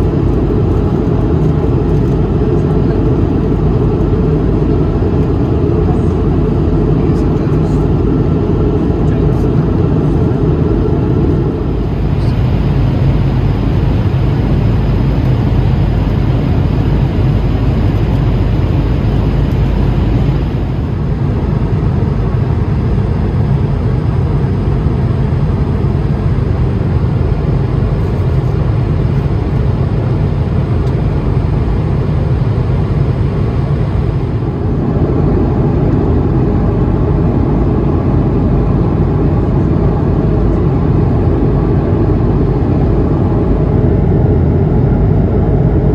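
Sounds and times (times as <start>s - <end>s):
airplane cabin roar: 0.0s - 45.9s.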